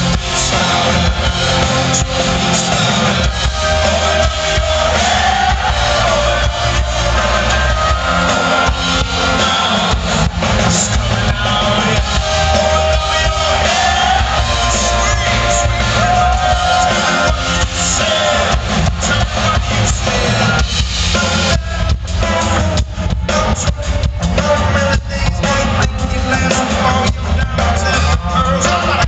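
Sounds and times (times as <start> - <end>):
live rock band playing: 0.0 - 29.0
man singing: 0.0 - 29.0.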